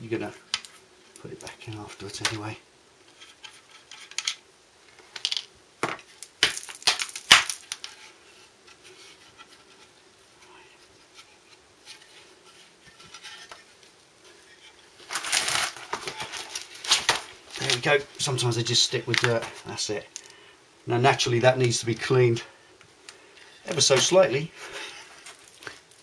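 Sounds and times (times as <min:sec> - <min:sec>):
faint handling noise: 0:00.2 - 0:20.4, 0:21.4 - 0:26.0.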